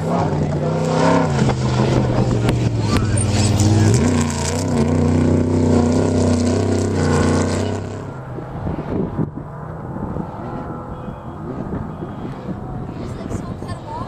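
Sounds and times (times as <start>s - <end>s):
race truck engine running hard: 0.0s - 14.0s.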